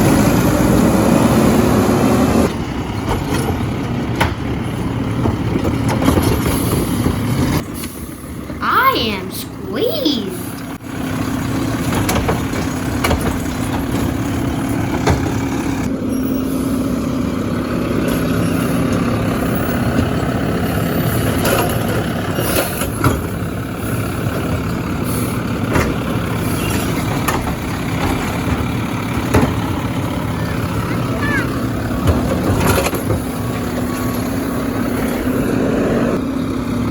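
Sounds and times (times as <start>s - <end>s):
garbage truck engine running: 0.0s - 9.6s, 10.3s - 36.9s.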